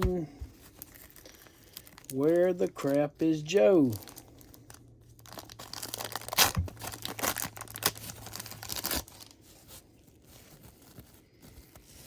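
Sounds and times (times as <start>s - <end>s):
cards rustling: 0.0s - 12.0s
card pack wrappers tearing: 0.6s - 12.0s.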